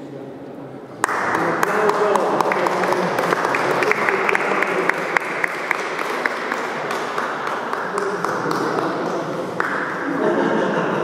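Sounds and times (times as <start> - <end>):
voices: 0.0 - 10.9
people clapping: 0.9 - 10.3.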